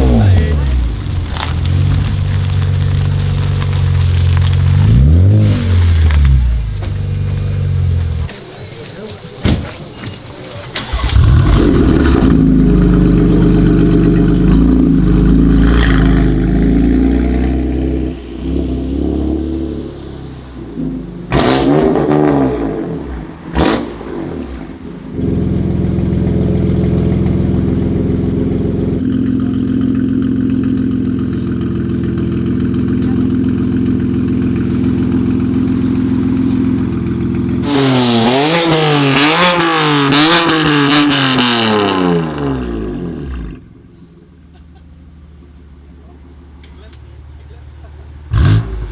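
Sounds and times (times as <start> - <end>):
engine revving: 0.0 - 8.3, 10.8 - 43.7, 48.2 - 48.9
car engine idling: 0.0 - 21.4, 22.1 - 48.9.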